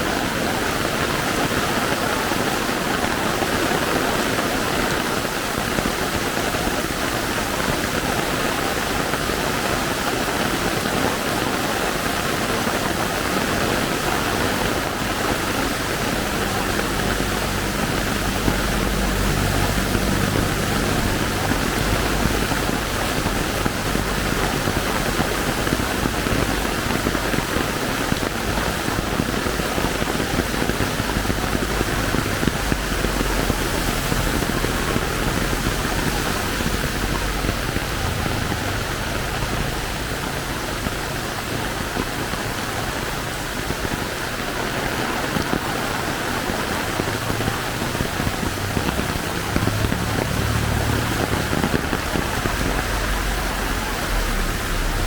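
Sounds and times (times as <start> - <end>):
heavy rain pouring: 0.0 - 55.0
low engine hum: 0.1 - 55.0.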